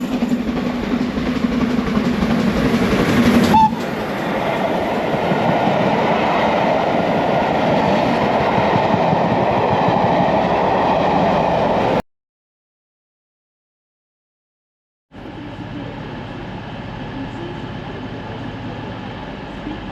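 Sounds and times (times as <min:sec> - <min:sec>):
train passing wheels on rails: 0:00.0 - 0:12.0, 0:15.2 - 0:19.9
train running low note: 0:00.0 - 0:12.0, 0:15.1 - 0:19.9.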